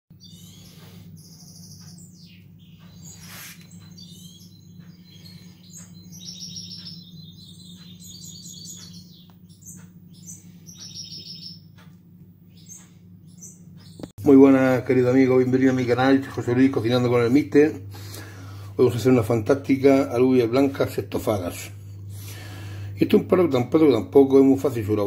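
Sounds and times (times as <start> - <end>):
songbirds chirping: 0.1 - 25.0
steady low hum: 0.1 - 25.0.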